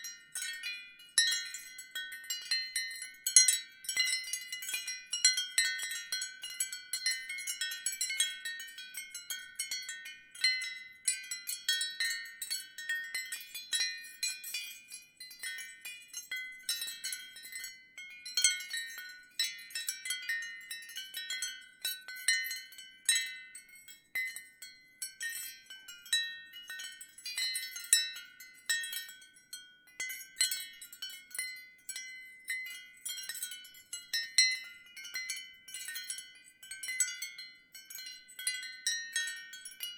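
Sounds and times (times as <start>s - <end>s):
ceramic wind chimes tinkling: 0.0s - 39.9s.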